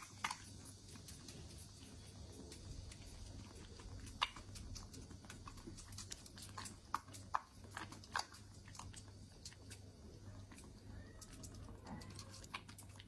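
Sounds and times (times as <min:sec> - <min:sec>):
kittens chewing and smacking: 0:00.0 - 0:13.0.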